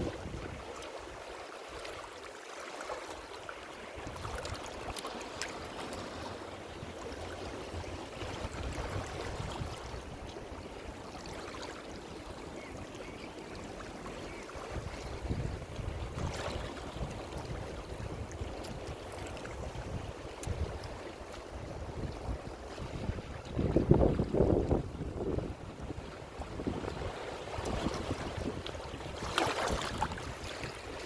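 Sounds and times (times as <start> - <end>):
ocean waves washing ashore: 0.0 - 31.0.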